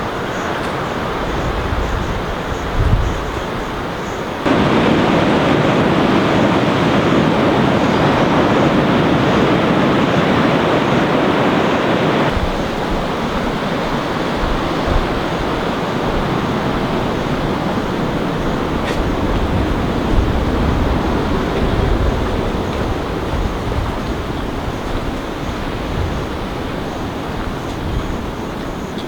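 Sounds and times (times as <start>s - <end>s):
ocean surf breaking: 3.6s - 29.0s.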